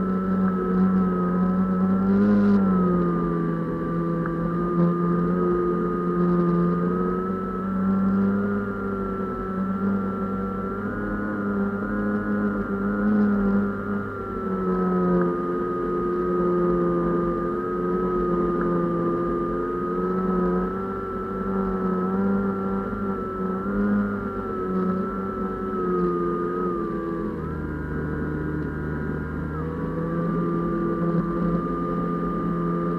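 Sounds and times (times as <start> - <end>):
drone motor and propeller running: 0.0 - 32.9.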